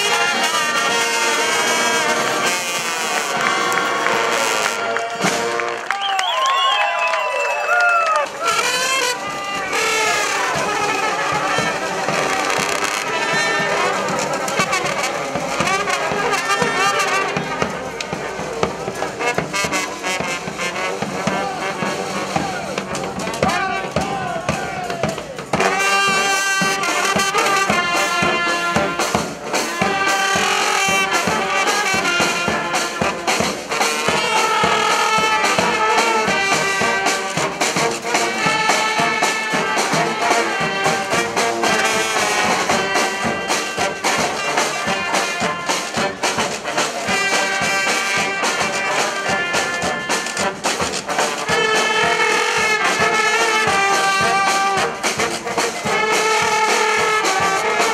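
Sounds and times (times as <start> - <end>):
brass band playing: 0.0 - 57.9.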